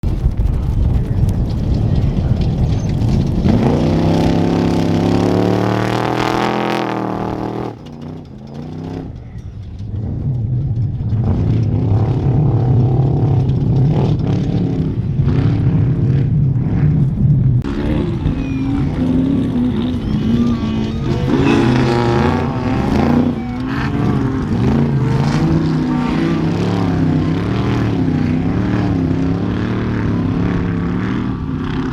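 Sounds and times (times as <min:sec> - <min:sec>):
race vehicle engine revving: 0:00.0 - 0:31.9
race vehicle engine running hard: 0:00.0 - 0:31.9.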